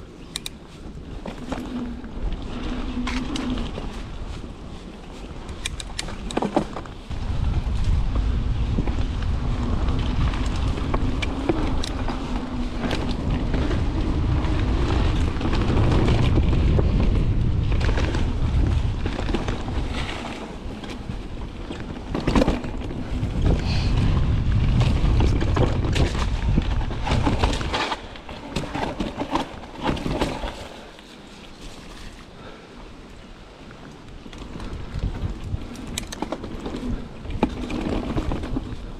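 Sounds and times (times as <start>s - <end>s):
bike knocking and rattling: 0.0s - 38.9s
bike tyre noise: 0.0s - 38.9s
wind buffeting microphone: 0.0s - 38.9s.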